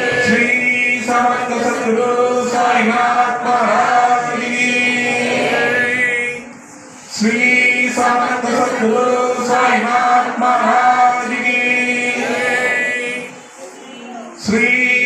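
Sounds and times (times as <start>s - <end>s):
voices chanting a hymn: 0.0s - 13.6s, 14.3s - 15.0s.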